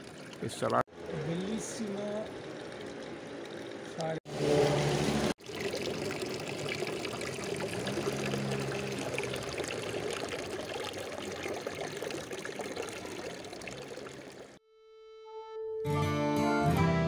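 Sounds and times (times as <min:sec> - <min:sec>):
water running and splashing: 0:00.0 - 0:14.6.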